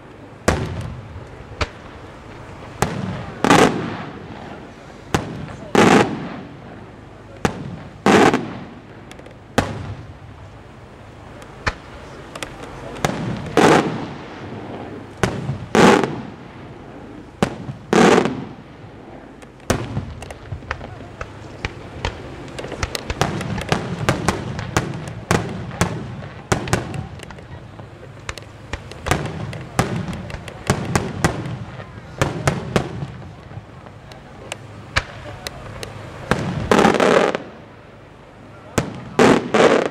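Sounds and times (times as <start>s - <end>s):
firework shells booming: 0.4s - 37.9s, 38.7s - 39.9s.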